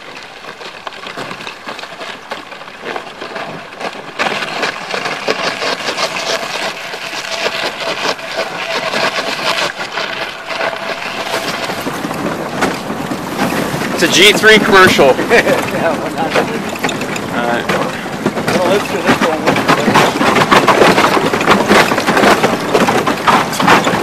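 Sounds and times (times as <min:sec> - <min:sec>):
ice crackling against boat hull: 0:00.0 - 0:24.0
outboard motor running: 0:00.0 - 0:24.0.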